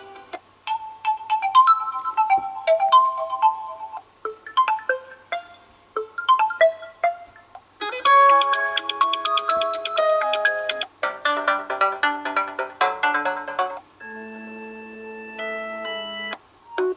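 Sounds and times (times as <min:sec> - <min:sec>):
phone ringtone melody: 0:00.0 - 0:16.9.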